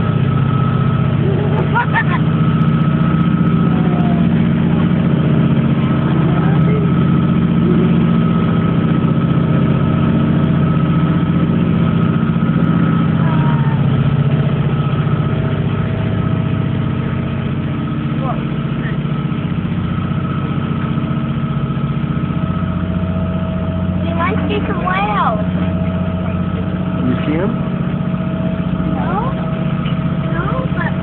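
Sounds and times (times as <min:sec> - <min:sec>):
car engine drone: 0:00.0 - 0:31.0
high whine: 0:00.0 - 0:31.0.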